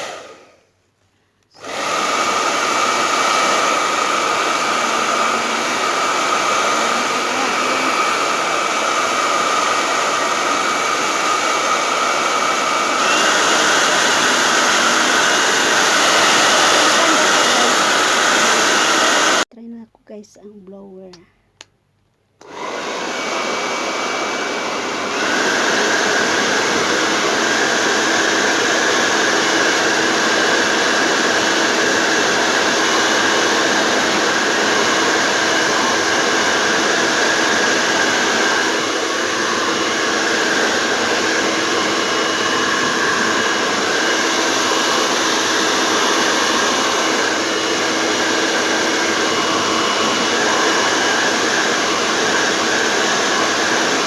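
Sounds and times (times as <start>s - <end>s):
hair dryer blowing: 0.0s - 0.7s, 1.5s - 19.5s, 22.4s - 54.0s.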